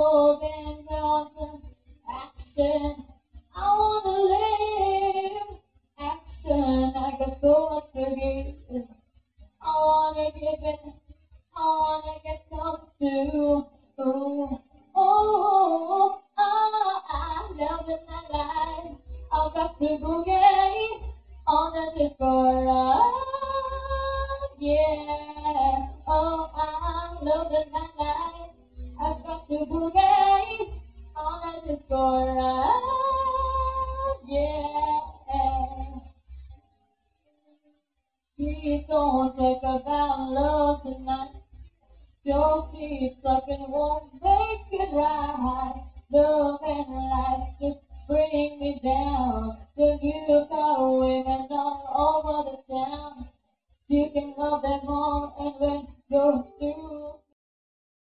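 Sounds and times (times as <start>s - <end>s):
woman singing into microphone: 0.0s - 8.9s, 9.6s - 36.1s, 38.4s - 41.4s, 42.3s - 53.3s, 53.9s - 57.3s.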